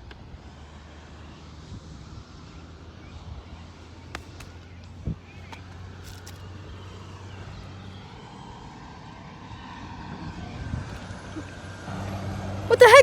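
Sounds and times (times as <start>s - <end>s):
highway traffic hum: 0.0s - 13.0s
passing vehicle: 0.0s - 13.0s.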